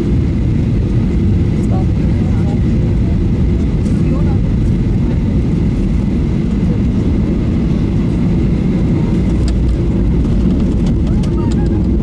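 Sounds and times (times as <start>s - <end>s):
airplane cabin engine noise: 0.0s - 12.0s.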